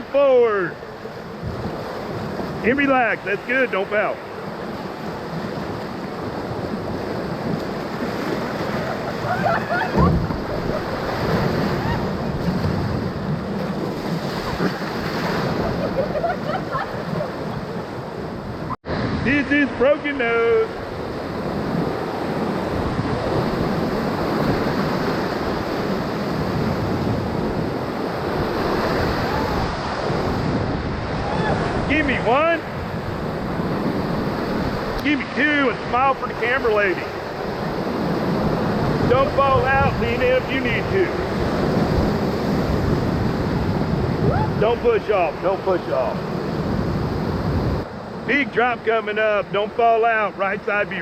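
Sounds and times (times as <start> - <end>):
whitewater rushing: 0.0 - 5.0, 6.1 - 26.2, 28.1 - 46.3
wind on microphone: 1.2 - 2.7, 4.4 - 19.8, 20.7 - 35.1, 37.0 - 48.2.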